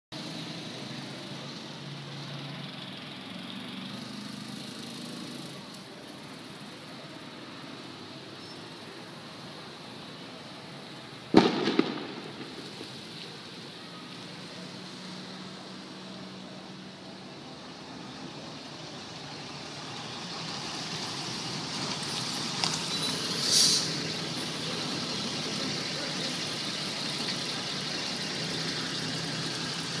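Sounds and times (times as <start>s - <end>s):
street traffic noise: 0.1s - 30.0s.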